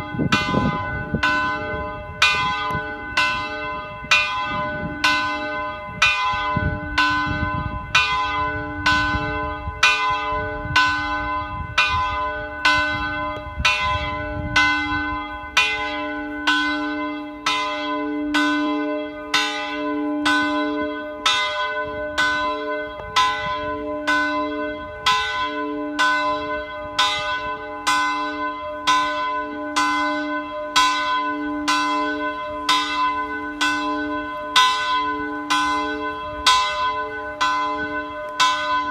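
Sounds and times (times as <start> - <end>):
church bell ringing: 0.0 - 38.9.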